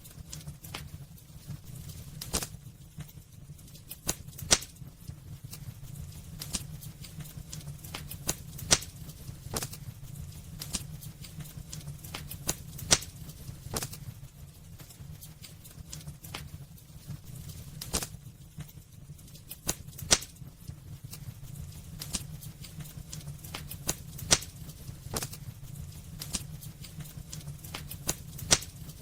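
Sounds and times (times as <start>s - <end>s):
low rumble of flames: 0.0s - 29.0s
wood fire crackling: 0.0s - 29.0s
fire sharp pops: 0.3s - 29.0s.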